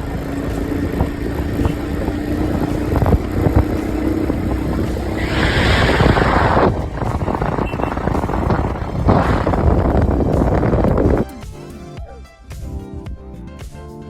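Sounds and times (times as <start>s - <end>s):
motorcycle rumbling: 0.0s - 11.3s
wind on microphone: 0.0s - 11.3s.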